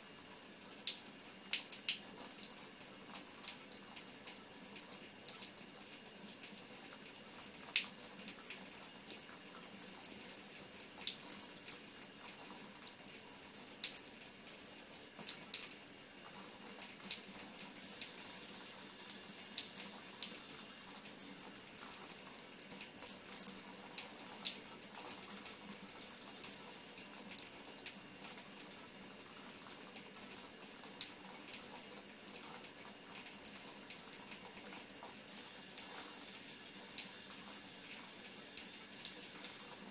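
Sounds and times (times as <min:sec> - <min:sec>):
water trickling from bathtub spout: 0:00.2 - 0:39.9.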